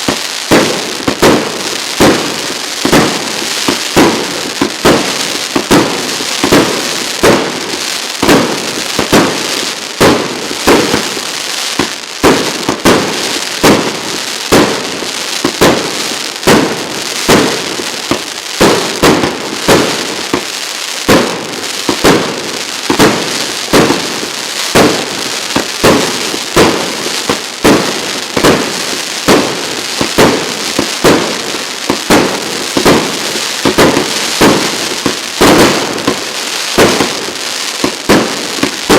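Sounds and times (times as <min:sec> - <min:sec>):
firework hiss and crackle: 0:00.0 - 0:38.9
firework shots firing: 0:00.0 - 0:38.9.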